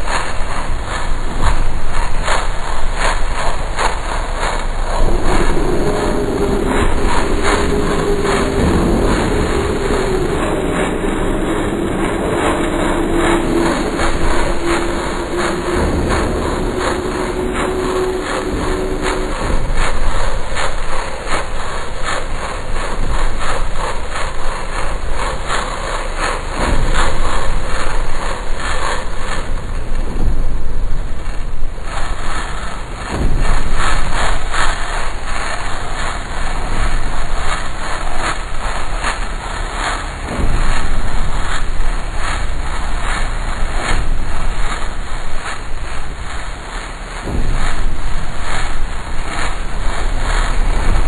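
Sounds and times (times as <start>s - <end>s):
harsh pulsing noise drone: 0.0s - 51.0s.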